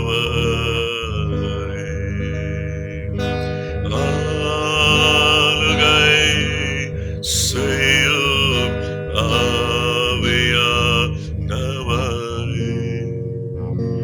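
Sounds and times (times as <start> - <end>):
slow worship melody: 0.0 - 14.0.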